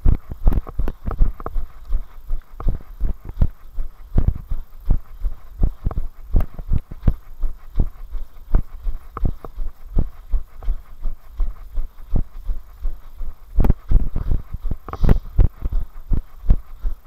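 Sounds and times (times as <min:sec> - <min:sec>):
running footsteps on dirt: 0:00.0 - 0:17.0.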